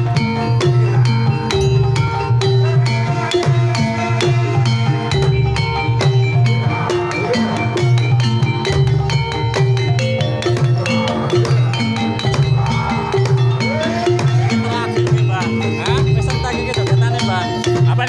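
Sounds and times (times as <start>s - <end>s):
gamelan metal keys melody: 0.0s - 18.0s.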